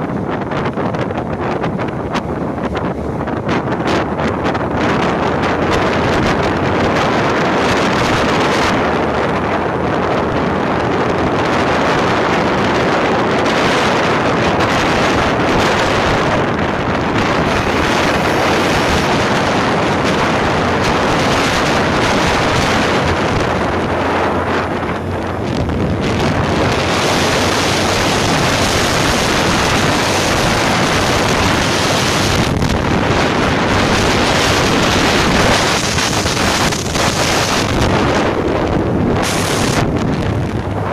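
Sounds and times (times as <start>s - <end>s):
wind on microphone: 0.0s - 40.9s.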